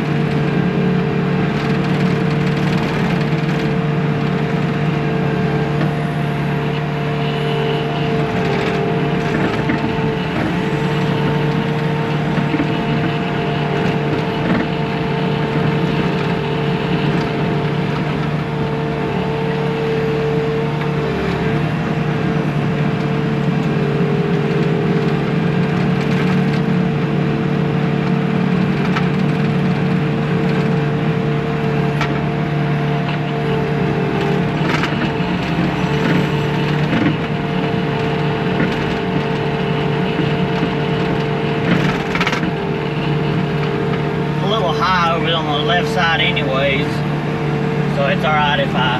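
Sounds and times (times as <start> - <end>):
diesel engine running under load: 0.0 - 48.9
hydraulic whine: 0.0 - 48.9.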